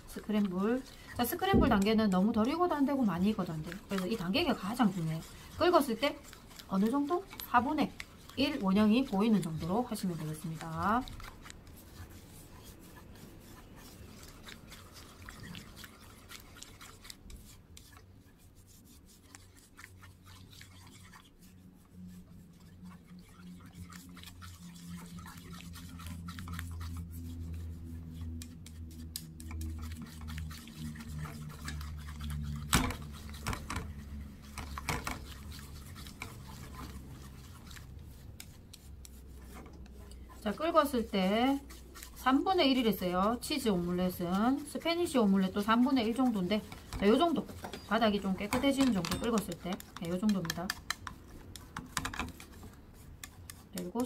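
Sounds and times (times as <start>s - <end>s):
chopsticks scraping frying pan: 0.0s - 18.0s, 28.2s - 54.0s
low steady hum: 0.0s - 54.0s.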